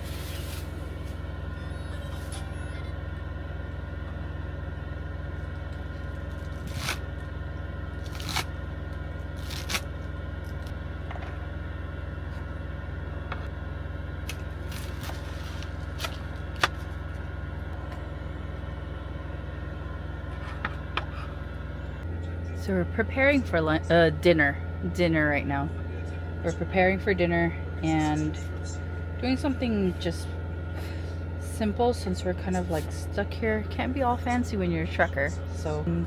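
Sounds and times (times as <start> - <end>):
low engine hum: 0.0 - 36.0.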